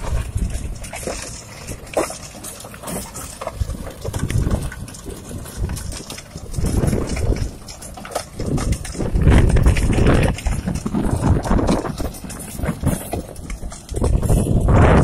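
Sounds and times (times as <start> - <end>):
rotary tiller churning soil: 0.0 - 15.0.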